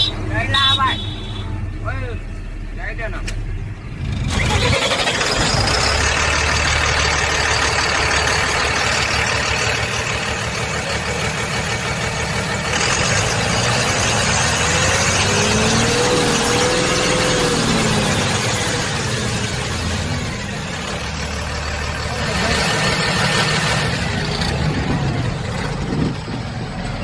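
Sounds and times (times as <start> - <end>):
truck diesel engine idling: 0.0 - 27.0.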